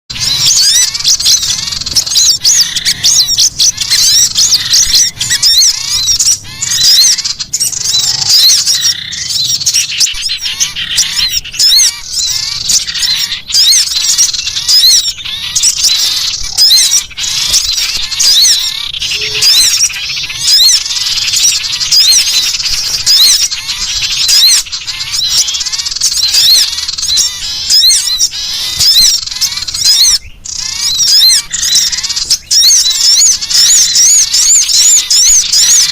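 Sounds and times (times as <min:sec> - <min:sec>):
bird harsh rapid chattering: 0:00.1 - 0:35.9.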